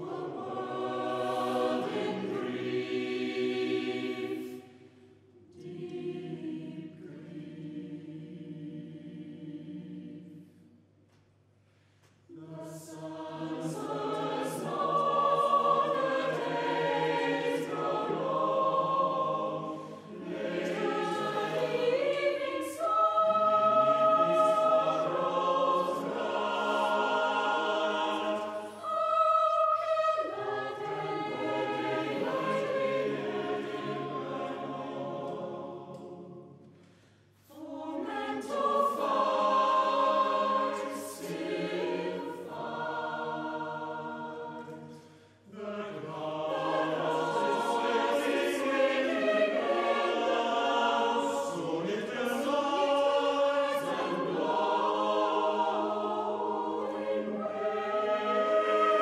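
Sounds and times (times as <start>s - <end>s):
choir singing unaccompanied: 0.0s - 10.8s, 12.3s - 36.7s, 37.4s - 59.0s.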